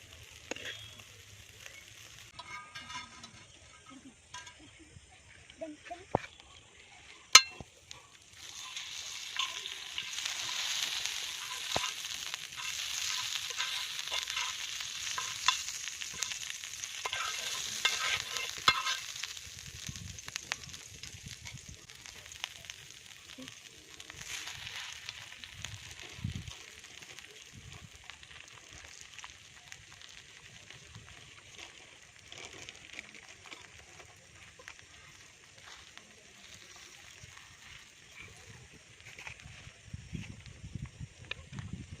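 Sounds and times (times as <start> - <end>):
bread sizzling in hot fat: 0.0 - 4.9, 6.2 - 42.0.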